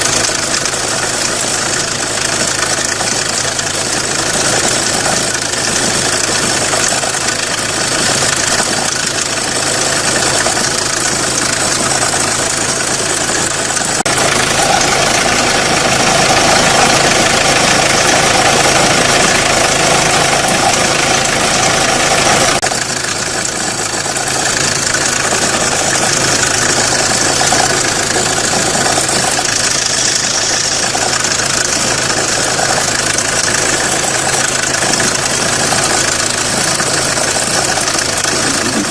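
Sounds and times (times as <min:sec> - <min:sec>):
diesel engine idling with knocking: 0:00.0 - 0:38.9.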